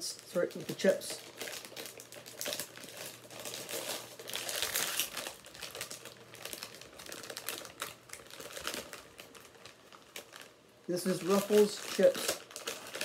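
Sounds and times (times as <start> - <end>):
plastic chip bag crinkling: 0.0 - 13.0.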